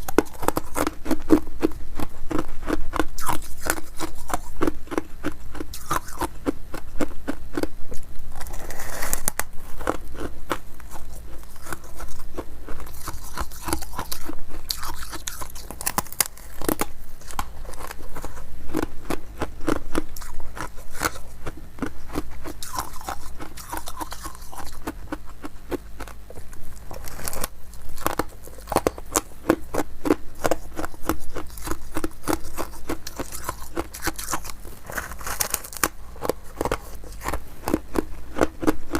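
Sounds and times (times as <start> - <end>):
ice crunching between teeth: 0.0 - 7.7, 8.3 - 38.9.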